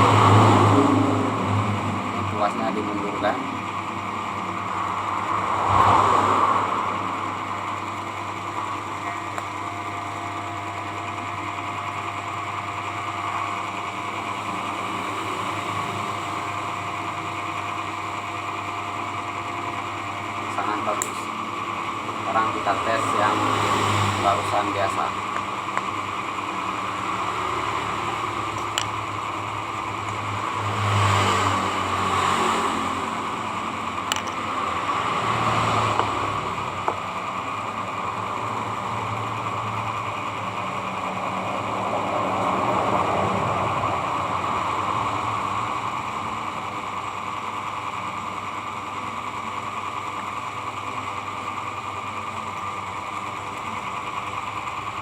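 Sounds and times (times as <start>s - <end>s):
electric hair clipper running: 0.0s - 49.2s.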